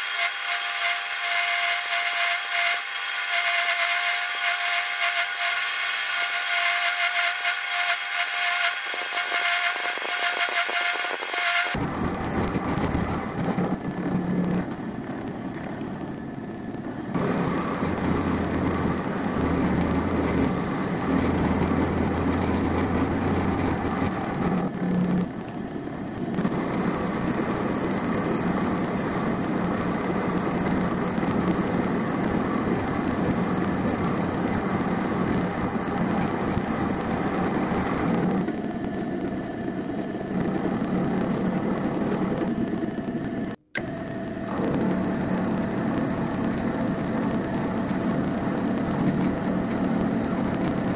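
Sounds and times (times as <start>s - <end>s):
milling machine cutting metal: 0.0s - 14.8s, 17.2s - 25.4s, 26.4s - 38.6s, 43.8s - 50.9s.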